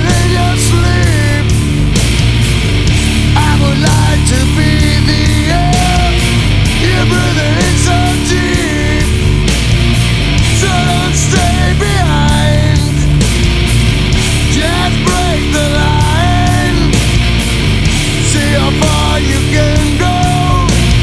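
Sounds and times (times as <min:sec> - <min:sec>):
bass and drums: 0:00.0 - 0:21.0
distorted electric guitar: 0:00.0 - 0:21.0.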